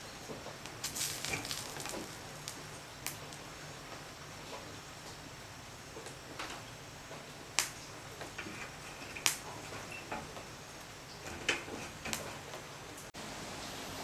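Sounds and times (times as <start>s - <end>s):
wood fire pops and snaps: 0.0s - 13.1s
low fire hiss: 0.0s - 14.0s.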